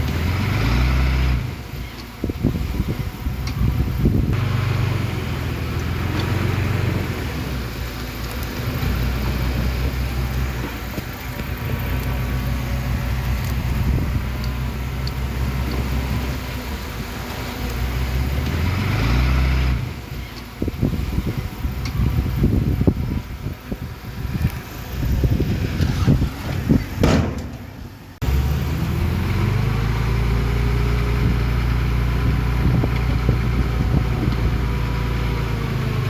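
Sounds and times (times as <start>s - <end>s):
heavy diesel engine revving: 0.0s - 36.0s.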